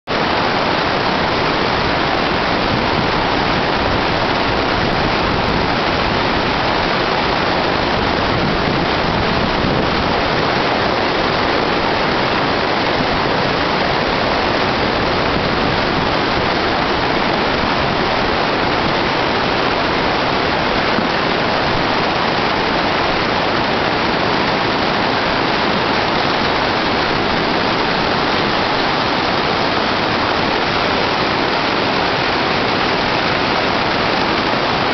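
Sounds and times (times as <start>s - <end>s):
stream rushing over rocks: 0.1s - 34.9s.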